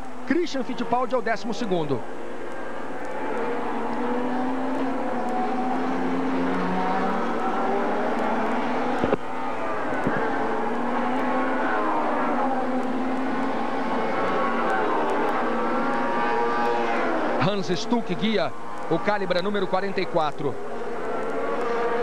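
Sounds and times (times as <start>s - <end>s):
racing car engines: 0.0s - 22.0s.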